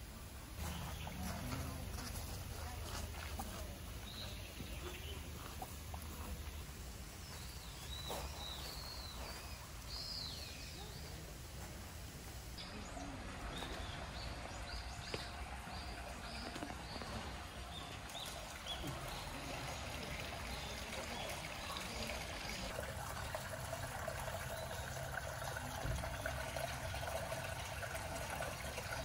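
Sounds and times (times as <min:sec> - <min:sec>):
water pouring into a pond: 0:00.4 - 0:29.0.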